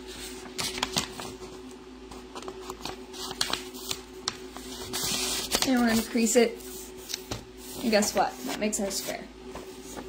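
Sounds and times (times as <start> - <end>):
paper rustling and crinkling: 0.1 - 10.0.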